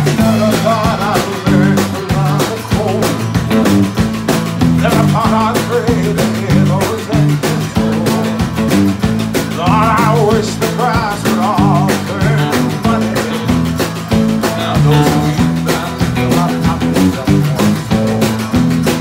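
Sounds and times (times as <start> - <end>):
man singing: 0.0 - 3.6, 4.7 - 19.0
country-rock band playing: 0.0 - 19.0.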